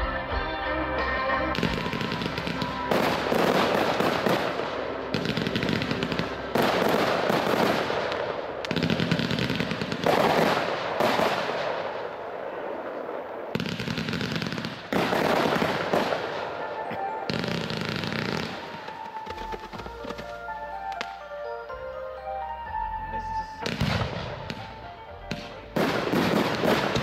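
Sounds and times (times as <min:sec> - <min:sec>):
fireworks crackling: 0:01.4 - 0:21.6, 0:23.2 - 0:27.0.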